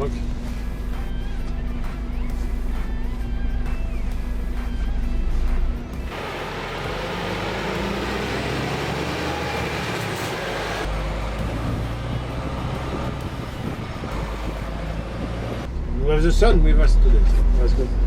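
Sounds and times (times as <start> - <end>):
road noise: 0.0 - 18.0
truck diesel engine hum: 0.0 - 18.0.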